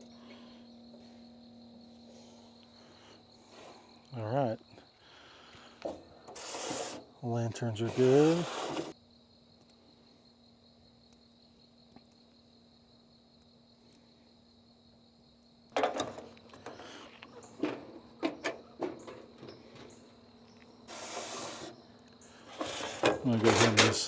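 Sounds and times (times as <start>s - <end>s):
crickets and insects chirring: 0.0s - 24.0s.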